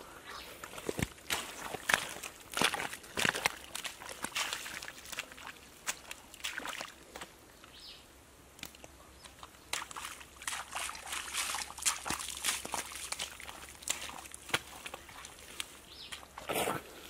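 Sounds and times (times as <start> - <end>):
bare feet squelching through mud: 0.4 - 7.8, 8.6 - 17.0.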